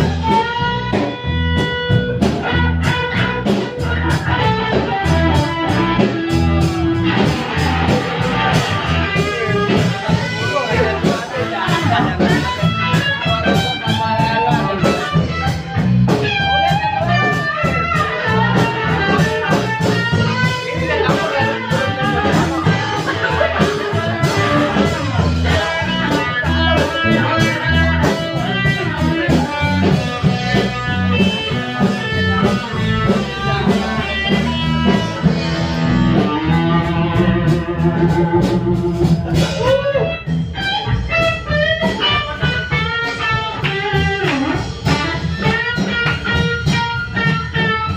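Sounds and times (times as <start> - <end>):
bass: 0.0 - 47.9
drums: 0.0 - 47.9
electric guitar: 0.0 - 47.9.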